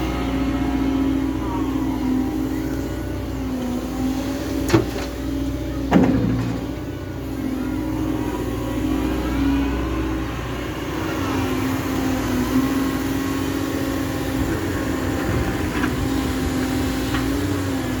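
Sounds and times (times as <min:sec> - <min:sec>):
excavator diesel engine humming: 0:00.0 - 0:18.0.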